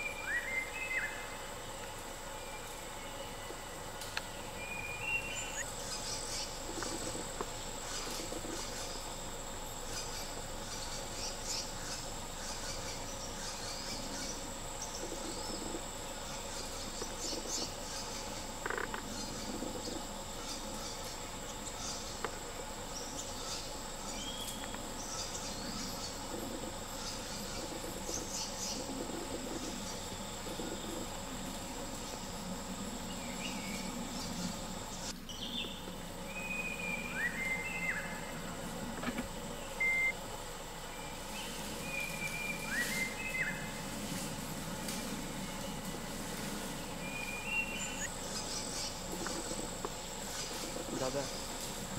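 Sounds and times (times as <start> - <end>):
insects buzzing: 0.0 - 51.9
short insect chirps: 0.0 - 51.9.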